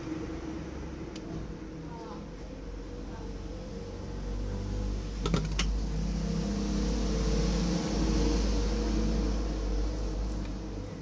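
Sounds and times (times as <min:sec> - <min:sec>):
steady low hum with tones: 0:00.0 - 0:11.0.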